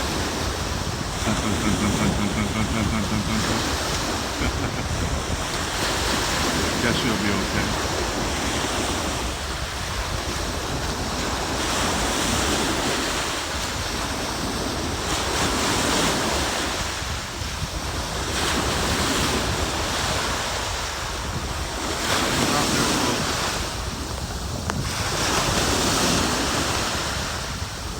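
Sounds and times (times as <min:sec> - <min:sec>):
ocean surf washing onto beach: 0:00.0 - 0:27.9
wind buffeting microphone: 0:00.0 - 0:27.9.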